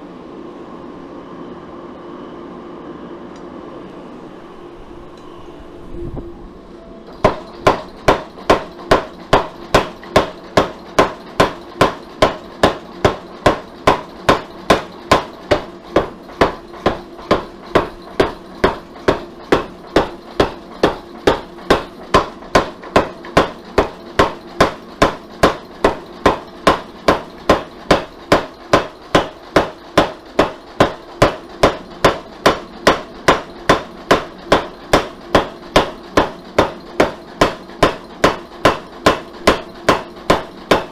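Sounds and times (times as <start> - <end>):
steady machine hum: 0.0 - 40.9
power hammer striking metal: 7.1 - 40.9.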